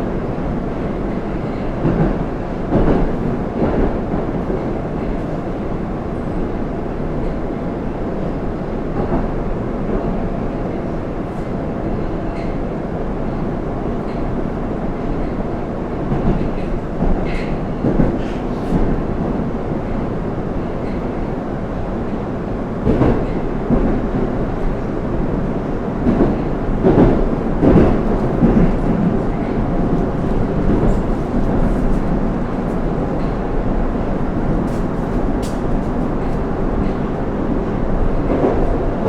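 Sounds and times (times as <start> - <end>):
train interior rumble: 0.0 - 39.0.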